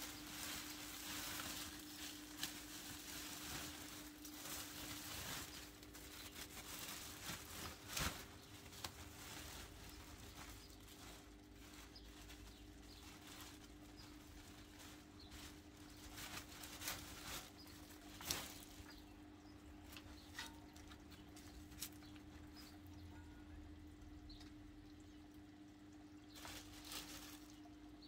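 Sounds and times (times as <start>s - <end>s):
plastic bag crinkling: 0.0s - 22.9s, 26.3s - 28.0s
dry clippings rustling and crackling: 0.0s - 28.0s.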